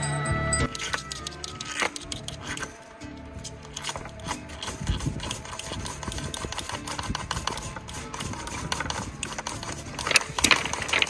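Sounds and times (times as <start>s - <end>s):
background music: 0.0s - 11.0s
flint rod scraping: 0.7s - 11.0s.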